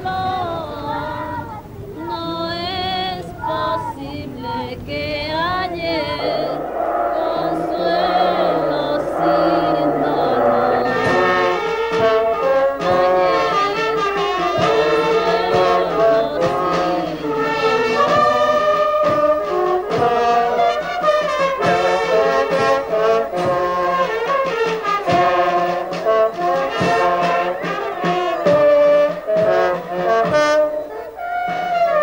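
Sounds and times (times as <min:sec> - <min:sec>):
brass band playing: 0:05.8 - 0:32.0.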